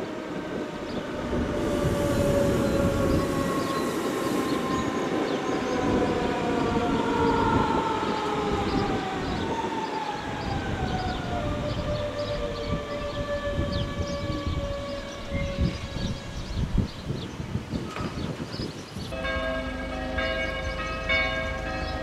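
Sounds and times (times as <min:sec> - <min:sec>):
wheels rumbling on rails: 0:00.0 - 0:22.0.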